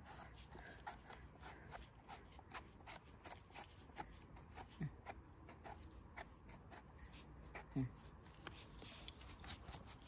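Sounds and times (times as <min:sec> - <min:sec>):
knife scraping mushroom stem: 0:00.0 - 0:10.0.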